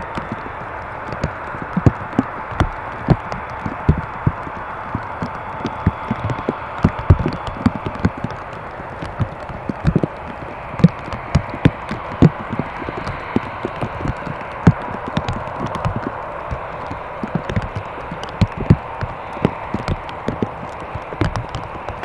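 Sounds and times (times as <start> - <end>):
airplane cabin airflow and engine: 0.0 - 22.0
low thumps and knocks: 0.0 - 22.0.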